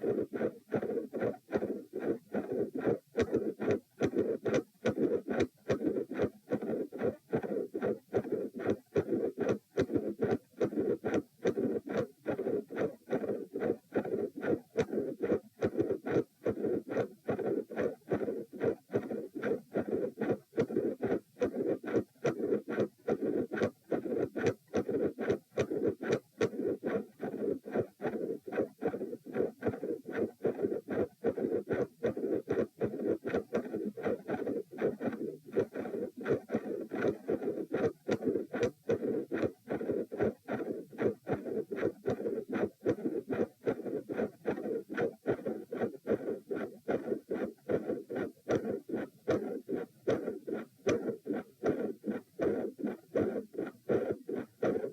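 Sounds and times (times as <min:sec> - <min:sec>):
heartbeat: 0:00.0 - 0:54.9.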